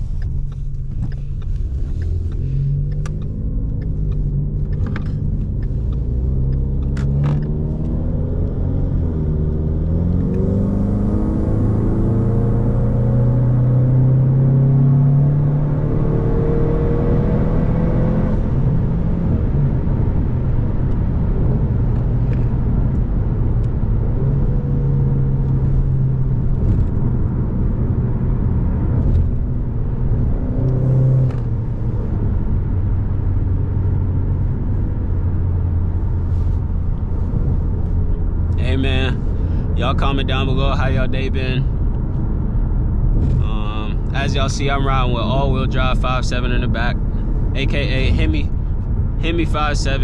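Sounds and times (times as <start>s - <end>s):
car engine running: 0.0s - 12.5s, 16.8s - 50.0s.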